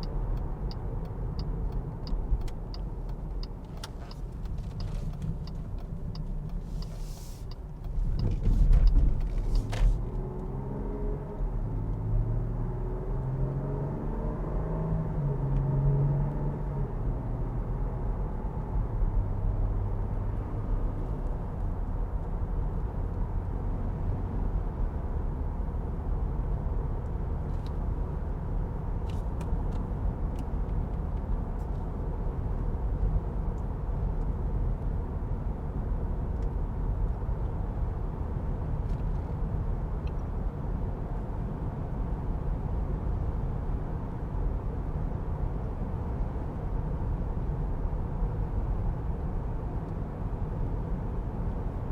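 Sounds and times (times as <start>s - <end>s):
tyre and road noise in car: 0.0s - 12.4s, 20.2s - 51.9s.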